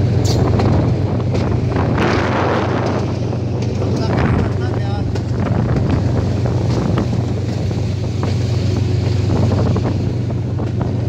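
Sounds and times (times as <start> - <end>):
locomotive engine humming: 0.0 - 11.0
wind buffeting microphone: 0.0 - 11.0.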